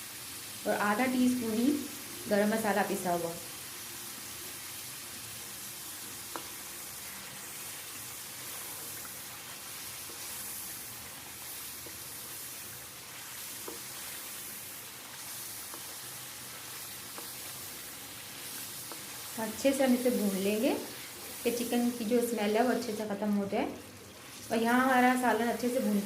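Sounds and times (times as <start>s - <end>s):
curry sizzling in oil: 0.0s - 26.0s.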